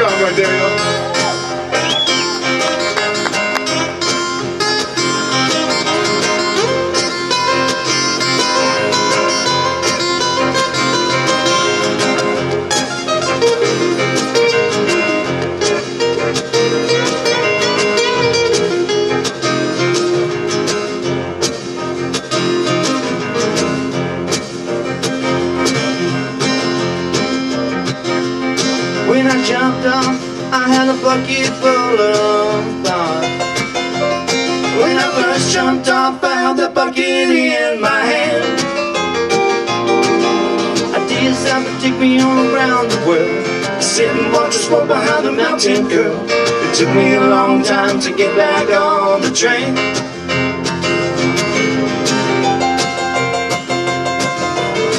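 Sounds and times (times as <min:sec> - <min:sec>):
lead guitar: 0:00.0 - 0:54.9
live country band: 0:00.0 - 0:54.9.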